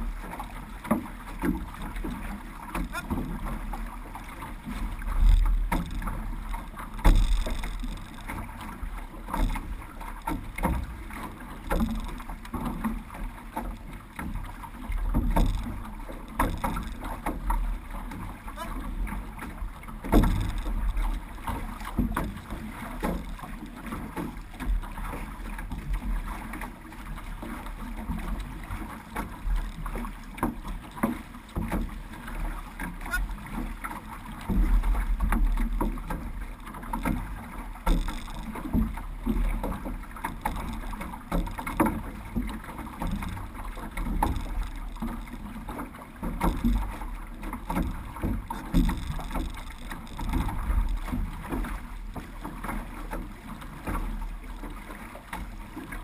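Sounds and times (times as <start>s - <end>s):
paddles pulling through water: 0.0s - 56.0s
water washing along hull: 0.0s - 56.0s.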